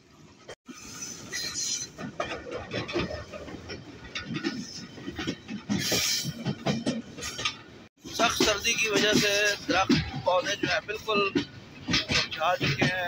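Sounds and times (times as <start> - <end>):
train wheels clattering on rails: 0.4 - 13.0.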